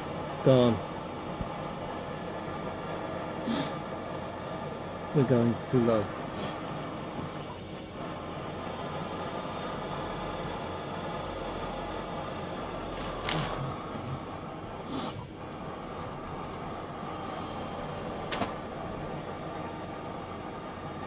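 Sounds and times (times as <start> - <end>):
machinery humming and hissing: 0.0 - 21.0.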